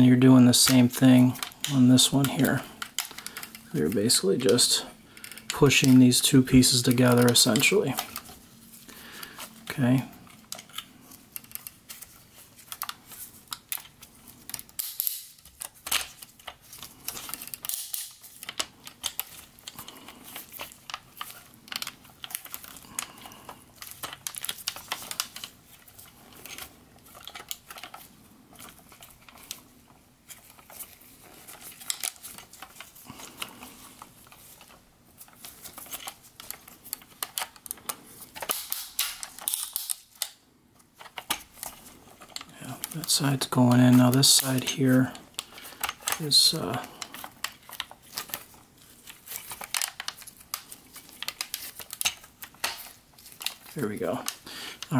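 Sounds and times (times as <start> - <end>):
plastic toy parts clicking: 0.6 - 8.4, 12.6 - 29.6, 34.3 - 40.4, 41.0 - 43.2, 43.8 - 54.9.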